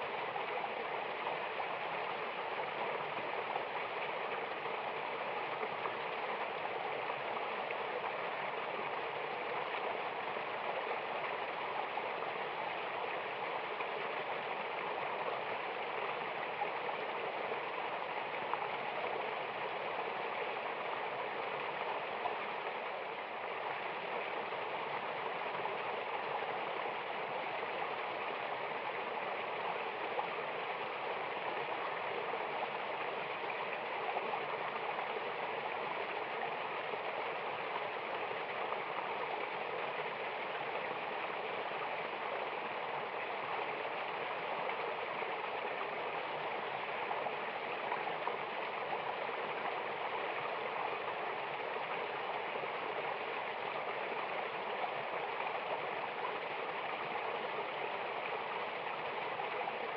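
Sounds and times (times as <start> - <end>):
waterfall and stream rushing: 0.0 - 59.9.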